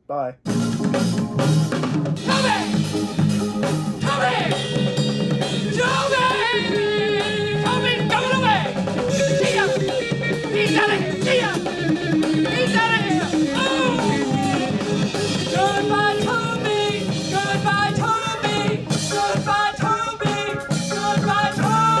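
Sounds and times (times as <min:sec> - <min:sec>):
keyboard: 0:00.0 - 0:22.0
drum kit: 0:00.4 - 0:22.0
man singing: 0:02.2 - 0:02.8, 0:04.0 - 0:04.8, 0:05.6 - 0:22.0.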